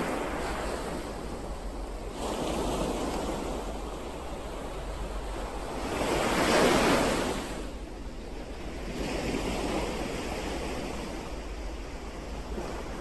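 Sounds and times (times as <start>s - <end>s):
ocean waves crashing on shore: 0.0s - 13.0s.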